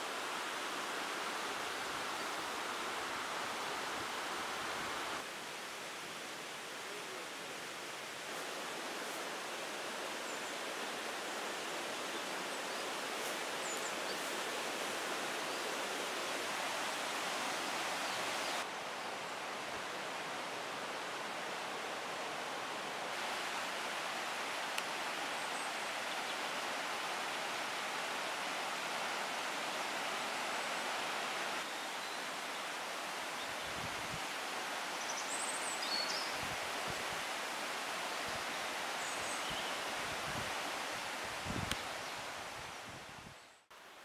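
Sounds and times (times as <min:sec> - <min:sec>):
rushing outdoor noise: 0:00.0 - 0:44.0.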